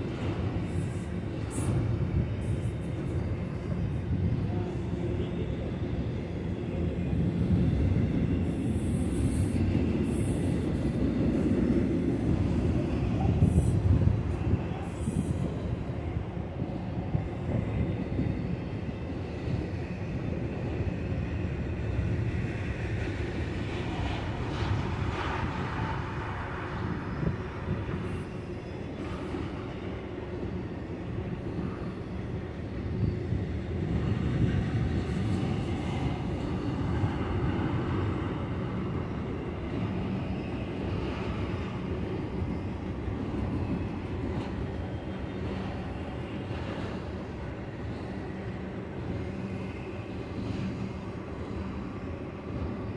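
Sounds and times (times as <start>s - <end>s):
steel wheels rumbling on rail: 0.0s - 52.9s.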